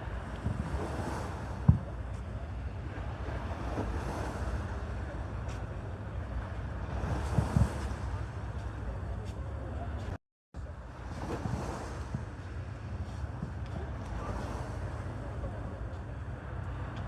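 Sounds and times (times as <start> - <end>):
wind on microphone: 0.0 - 10.1, 11.0 - 15.9.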